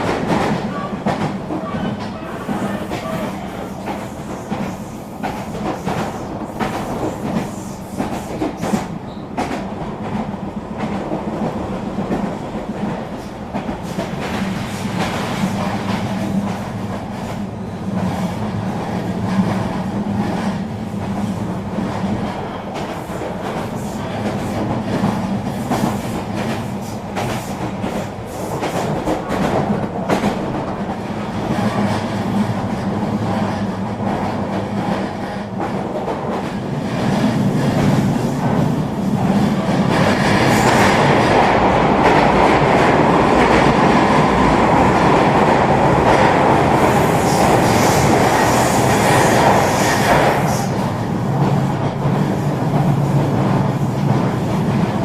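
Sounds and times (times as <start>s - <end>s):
train rumbling and humming: 0.0s - 55.0s.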